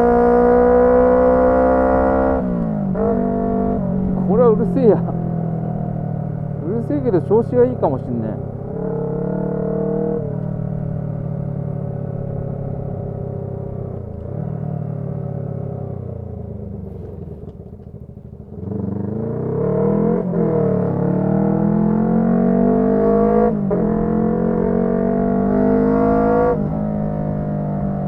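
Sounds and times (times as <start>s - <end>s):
motorcycle engine: 0.0s - 28.0s.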